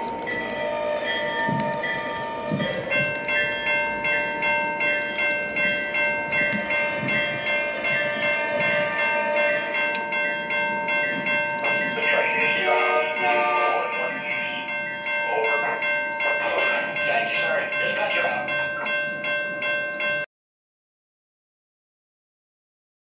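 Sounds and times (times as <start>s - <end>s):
electronic bell ringing: 0.3s - 20.3s.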